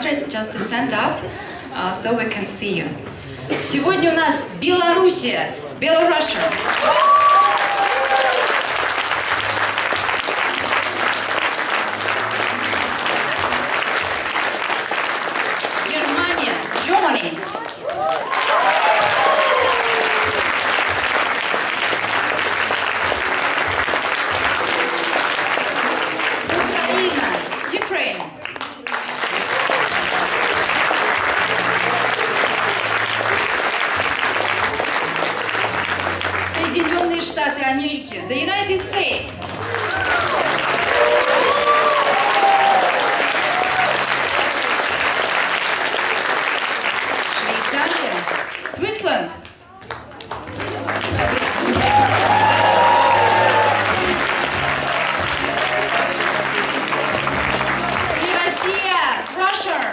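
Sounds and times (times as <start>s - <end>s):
audience applauding: 6.0s - 37.4s, 38.8s - 48.9s, 49.5s - 59.9s.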